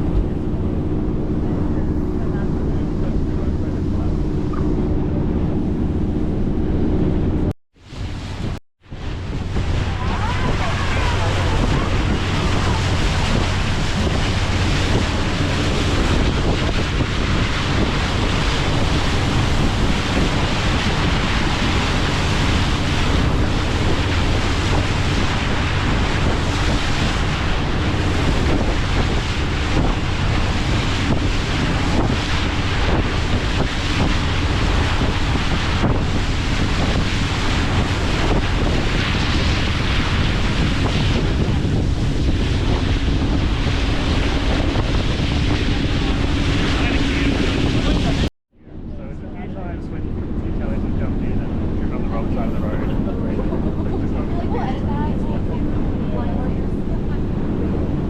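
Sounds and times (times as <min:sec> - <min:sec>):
boat engines droning: 0:00.0 - 0:58.0
water rushing along hull: 0:00.0 - 0:58.0
wind buffeting microphone: 0:00.0 - 0:58.0.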